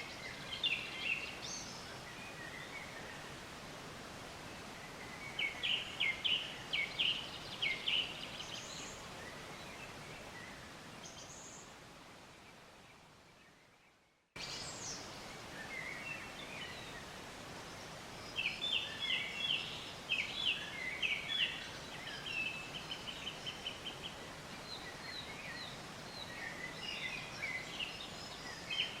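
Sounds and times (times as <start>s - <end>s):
birds chirping: 0.0s - 3.6s, 4.4s - 29.0s
outdoor hiss: 0.0s - 29.0s.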